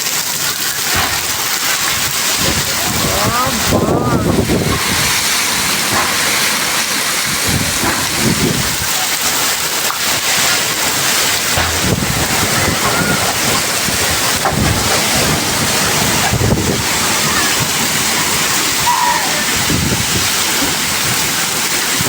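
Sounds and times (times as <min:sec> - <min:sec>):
heavy rain pouring: 0:00.0 - 0:22.0
wind buffeting microphone: 0:00.9 - 0:22.0.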